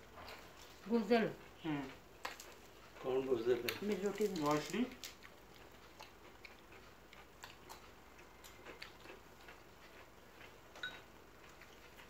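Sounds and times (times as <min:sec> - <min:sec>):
small clicks of eating: 0:00.0 - 0:12.0.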